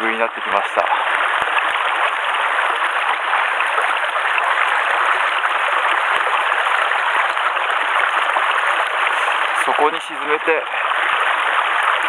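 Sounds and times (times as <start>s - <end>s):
rain falling on water: 0.0s - 12.0s
stream running over rocks: 0.0s - 12.0s.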